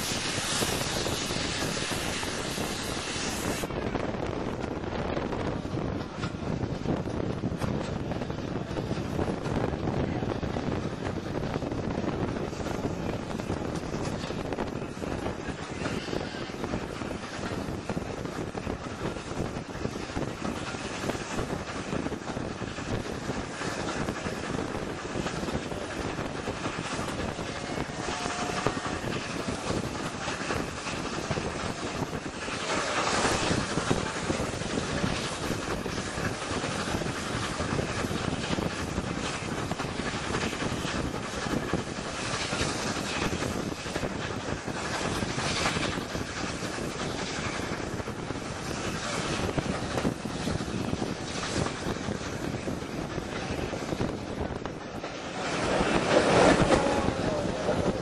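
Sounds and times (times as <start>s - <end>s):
train wheels rushing on rails: 0.0s - 58.0s.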